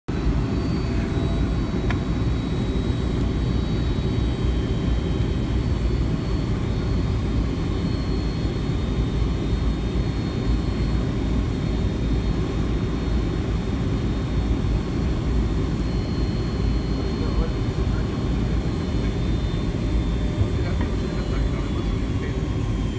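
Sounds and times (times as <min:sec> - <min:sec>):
faint high engine whine: 0:00.1 - 0:22.9
jet engines rumbling in cabin: 0:00.1 - 0:22.9.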